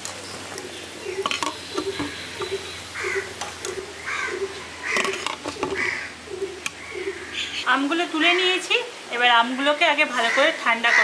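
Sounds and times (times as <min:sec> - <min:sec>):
water boiling in a metal pan: 0:00.0 - 0:09.8.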